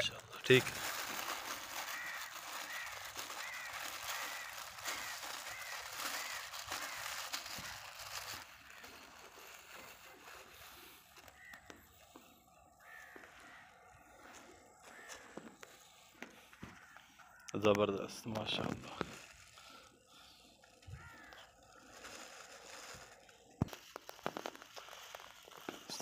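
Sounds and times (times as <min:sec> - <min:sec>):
plastic bag crinkling: 0:00.0 - 0:12.0, 0:14.9 - 0:26.0.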